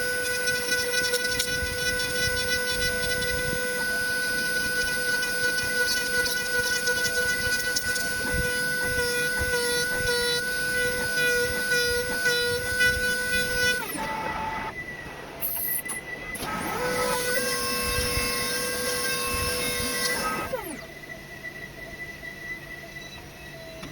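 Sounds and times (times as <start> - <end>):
router spindle whining: 0.0 - 23.9.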